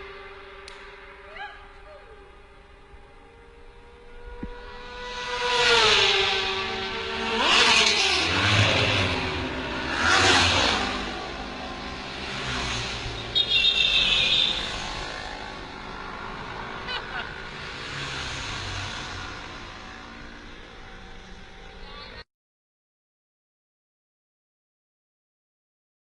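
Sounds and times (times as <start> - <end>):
motorcycles passing at speed: 0.0 - 22.2.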